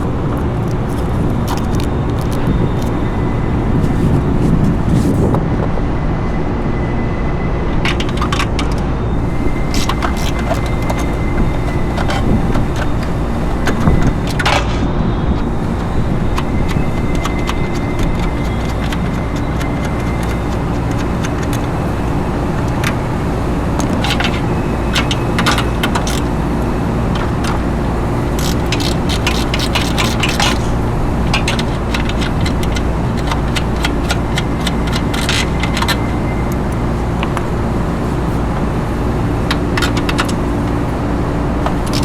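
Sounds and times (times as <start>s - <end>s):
machinery drone: 0.0s - 42.0s.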